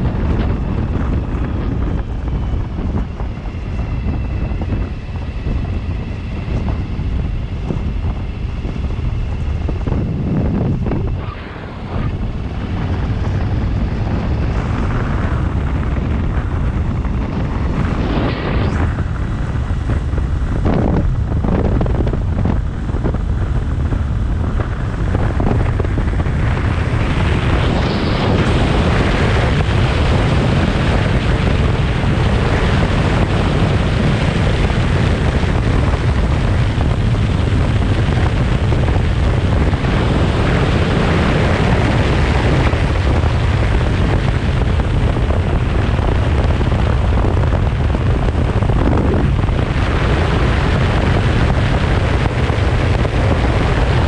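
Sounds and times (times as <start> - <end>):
motorcycle running: 0.0 - 54.0
wind rumble on microphone: 0.0 - 54.0.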